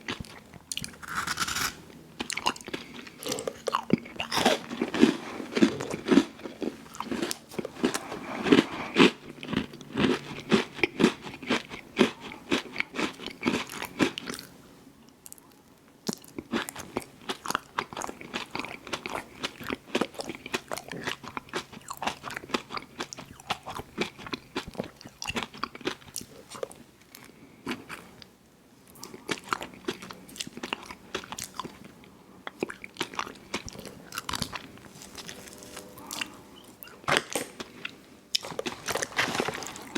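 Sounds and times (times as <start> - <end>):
person chewing crunchy food: 0.0 - 14.6, 16.0 - 28.3, 28.9 - 39.9.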